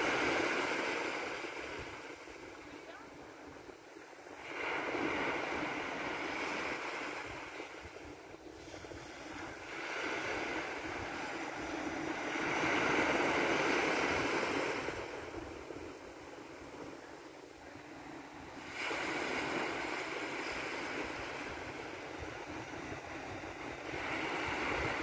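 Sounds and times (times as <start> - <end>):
surf washing up a beach: 0.0 - 25.0.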